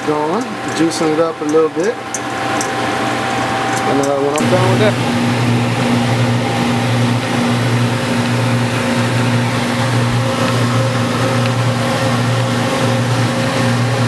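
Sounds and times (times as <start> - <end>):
refrigeration unit humming: 0.0 - 14.0.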